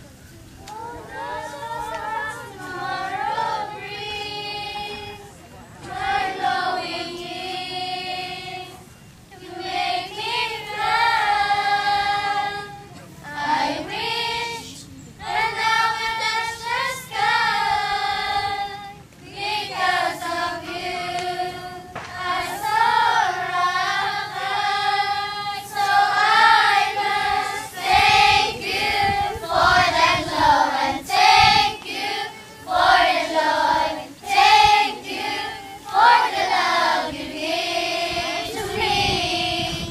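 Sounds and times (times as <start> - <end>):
children singing together: 0.6 - 39.9.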